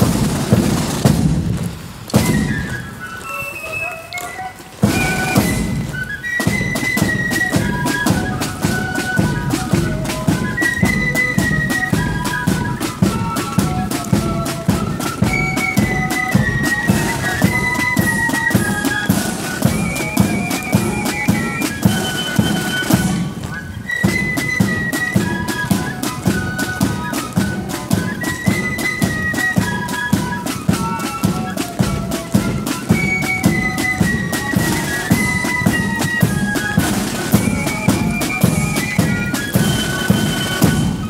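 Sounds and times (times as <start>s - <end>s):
side drum beating: 0.0s - 2.8s, 4.8s - 41.0s
flutes playing shrill melody: 2.1s - 41.0s.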